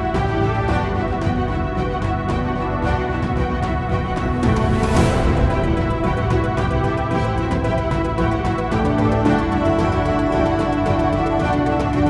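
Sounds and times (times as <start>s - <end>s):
instrumental music with a beat: 0.0s - 12.0s.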